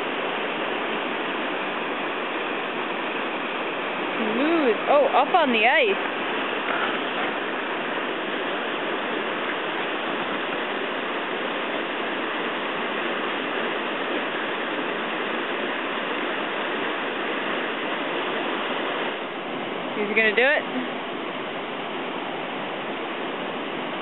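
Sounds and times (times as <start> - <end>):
river rushing through rapids: 0.0 - 24.0.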